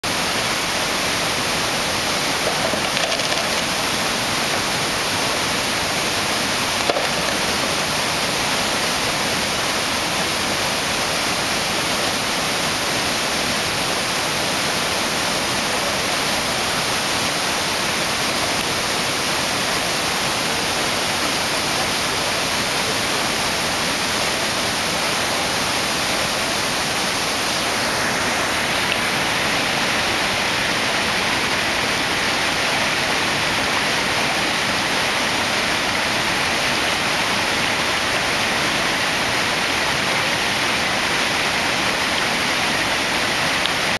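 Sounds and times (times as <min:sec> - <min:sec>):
river rushing roar: 0:00.0 - 0:43.9.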